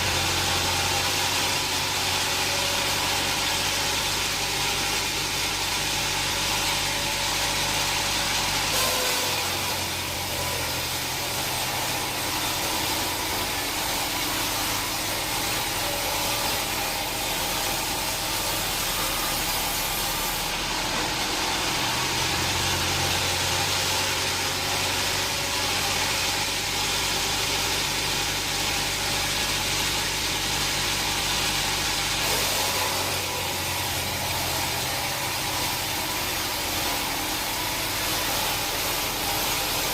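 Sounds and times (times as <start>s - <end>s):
engine-driven saw hissing: 0.0s - 39.9s.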